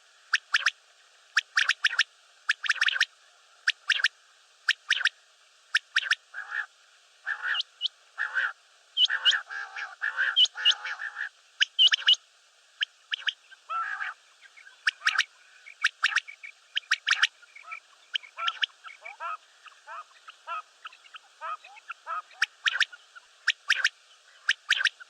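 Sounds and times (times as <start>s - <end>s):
quail calling: 0.3s - 0.8s, 1.4s - 4.1s, 4.7s - 5.1s, 5.7s - 12.2s, 12.8s - 25.0s.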